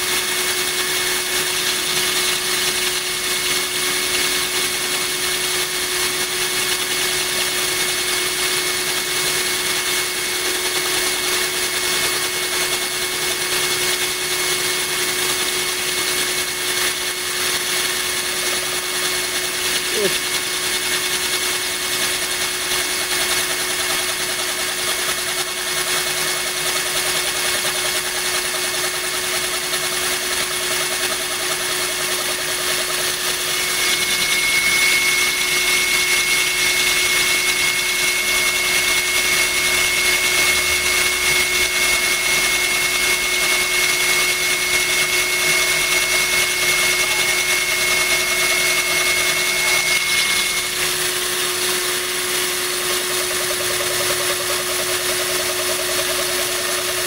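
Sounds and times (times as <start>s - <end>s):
power drill grinding into glass: 0.0s - 57.0s.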